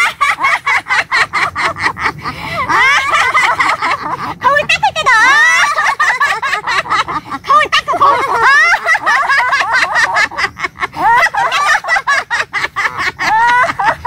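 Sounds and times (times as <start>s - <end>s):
women laughing heartily: 0.0s - 14.0s.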